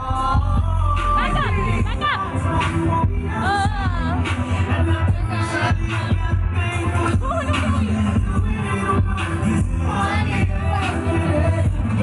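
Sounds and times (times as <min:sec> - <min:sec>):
heavy bass beat: 0:00.0 - 0:12.0
pop music with singing: 0:00.0 - 0:12.0.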